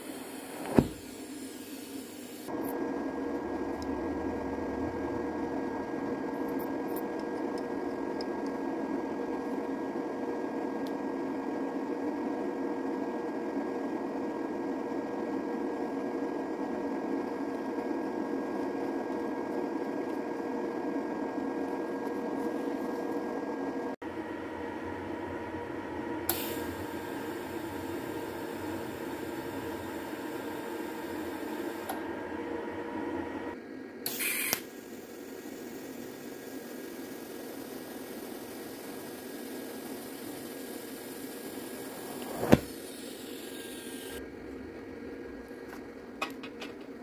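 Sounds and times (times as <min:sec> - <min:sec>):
welder whirring hum: 0:00.0 - 0:46.0.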